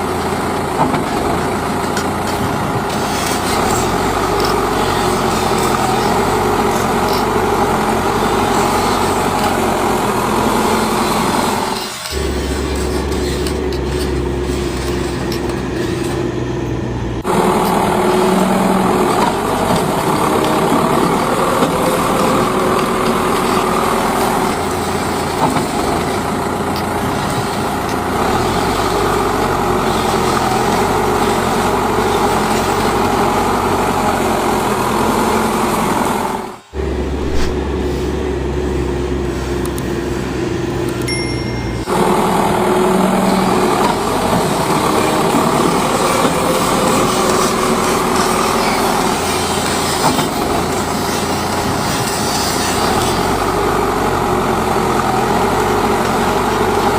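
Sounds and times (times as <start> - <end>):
toy truck motors and gears droning: 0.0 - 56.9.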